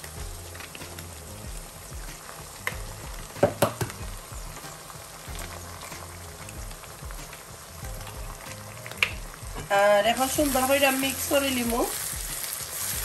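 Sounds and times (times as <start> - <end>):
eggs sizzling in a pan: 0.0 - 13.0.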